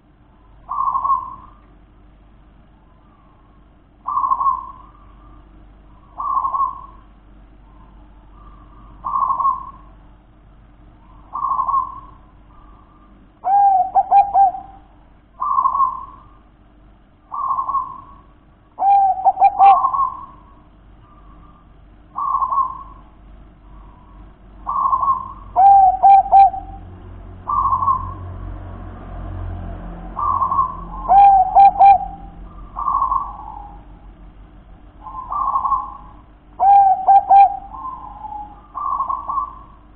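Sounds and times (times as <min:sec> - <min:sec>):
dove cooing: 0:00.0 - 0:01.6, 0:03.0 - 0:07.1, 0:07.7 - 0:10.0, 0:11.0 - 0:16.4, 0:17.3 - 0:28.3, 0:30.1 - 0:34.1, 0:35.0 - 0:39.9.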